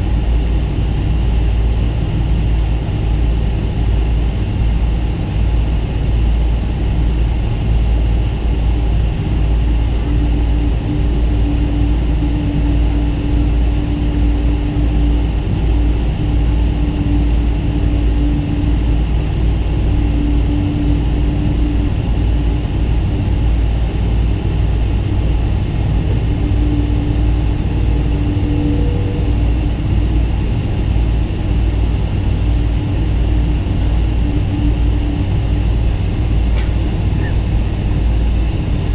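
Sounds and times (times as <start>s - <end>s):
aircraft cabin engine rumble: 0.0s - 38.9s
faint hum: 0.0s - 38.9s.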